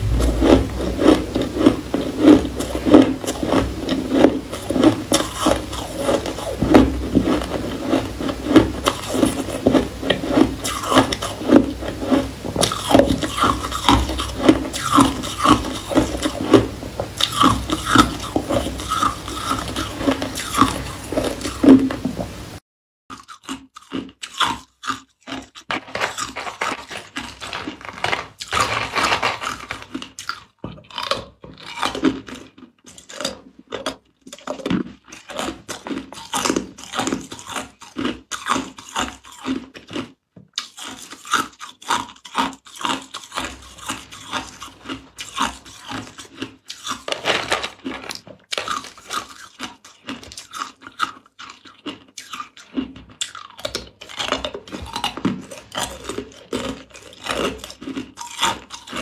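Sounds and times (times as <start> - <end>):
ice cubes crunched and chewed: 0.0 - 21.9, 23.1 - 59.0.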